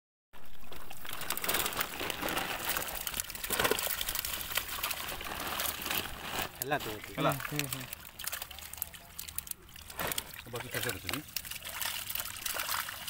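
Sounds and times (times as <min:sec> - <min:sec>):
fish flapping and slapping: 0:00.5 - 0:13.0
net rustling: 0:00.6 - 0:08.0, 0:09.8 - 0:13.0.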